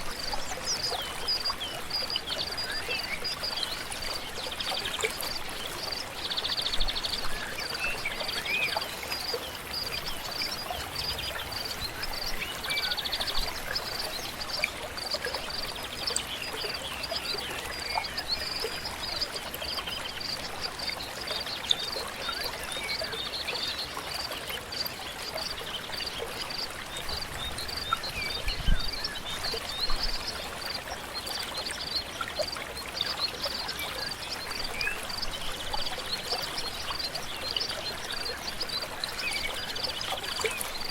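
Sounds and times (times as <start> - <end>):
birds singing: 0.0 - 40.9
stream flowing: 0.0 - 40.9.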